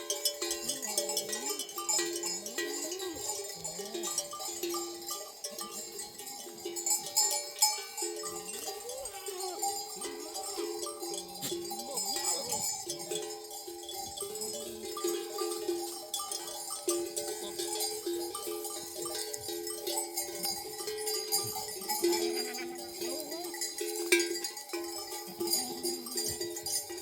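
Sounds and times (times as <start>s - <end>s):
livestock bells ringing: 0.0s - 27.0s.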